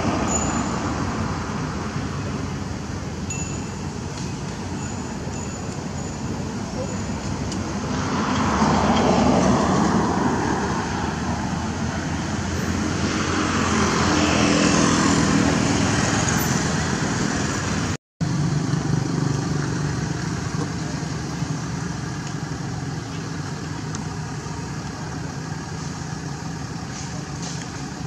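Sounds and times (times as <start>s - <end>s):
motor vehicles going by: 0.0s - 28.0s.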